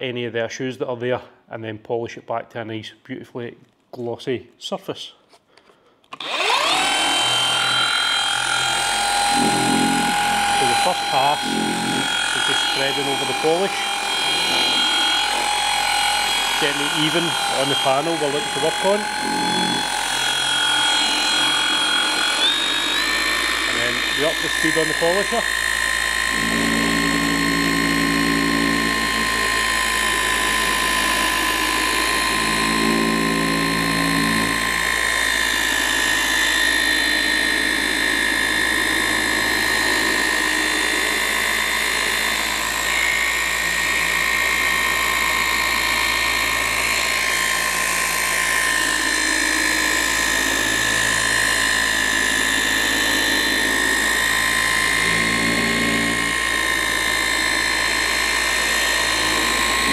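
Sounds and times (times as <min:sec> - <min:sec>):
polisher motor whine: 0:06.2 - 0:59.9.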